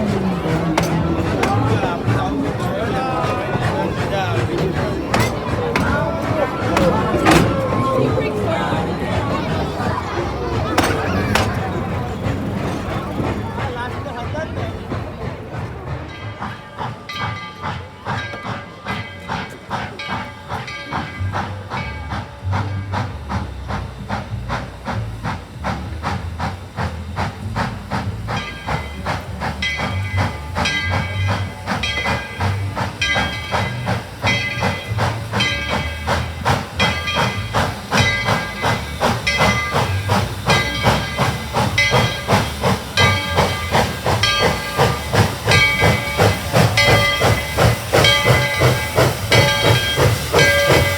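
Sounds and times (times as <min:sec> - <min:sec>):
hissing steam: 0:00.0 - 0:50.9
steam locomotive chuffing: 0:00.0 - 0:50.9.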